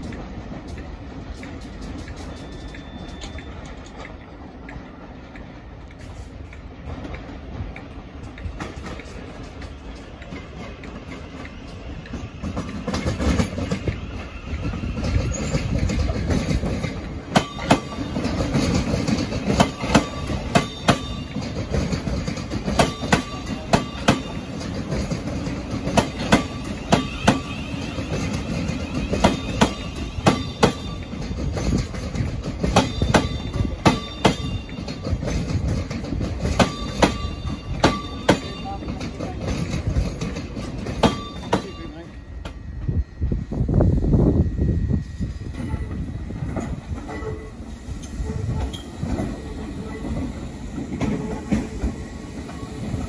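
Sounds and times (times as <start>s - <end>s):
wheels clicking over rail joints: 0.0s - 42.6s
train low rumble: 0.0s - 53.0s.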